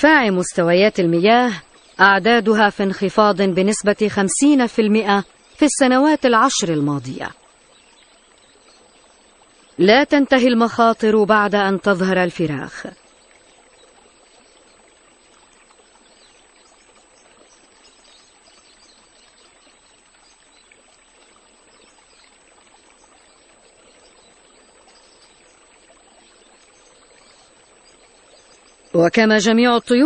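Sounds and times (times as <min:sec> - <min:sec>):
faint rushing water: 0:00.0 - 0:30.0.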